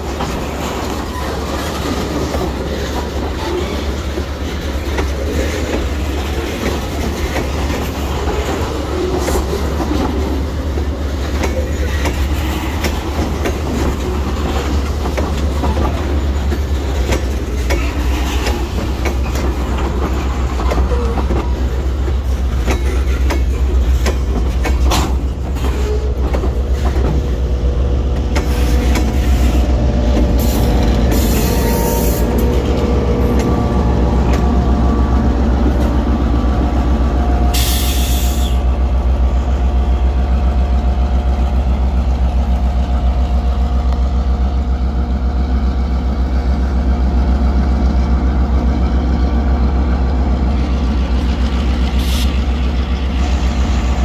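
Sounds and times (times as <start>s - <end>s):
diesel locomotive engine: 0.0s - 54.0s
train wheels clicking on rail joints: 0.0s - 54.0s.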